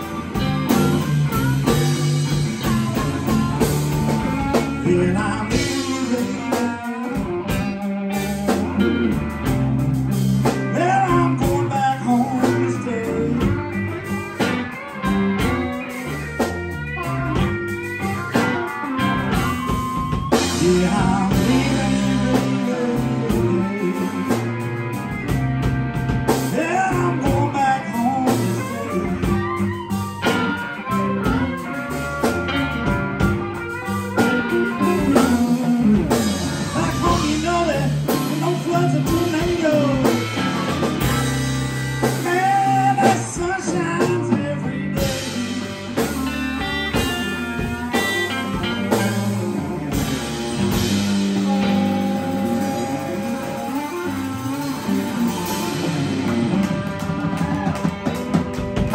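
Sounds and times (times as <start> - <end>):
electric lead guitar bending notes: 0.0 - 58.9
live blues band playing: 0.0 - 58.9.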